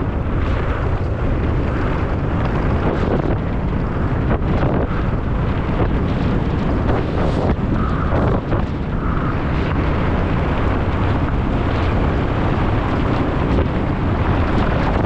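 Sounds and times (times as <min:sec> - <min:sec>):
mountain bike rattling over rough ground: 0:00.0 - 0:15.0
wind rushing over microphone: 0:00.0 - 0:15.0.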